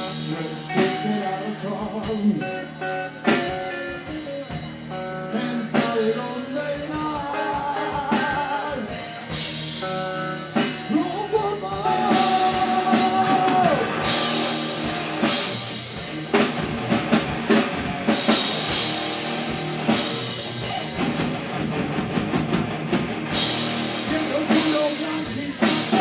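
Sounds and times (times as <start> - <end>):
rock band playing live: 0.0 - 26.0.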